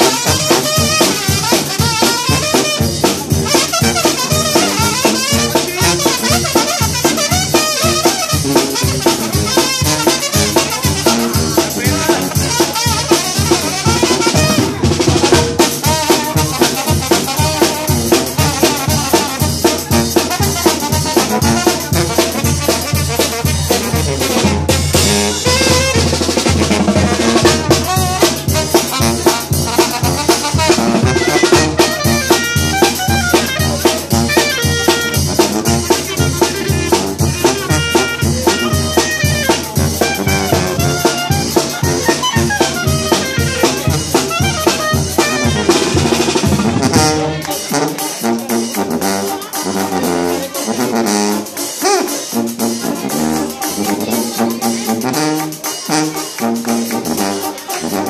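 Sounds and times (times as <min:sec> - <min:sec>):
brass band playing: 0:00.0 - 0:58.0
drums keeping a steady beat: 0:00.0 - 0:58.0.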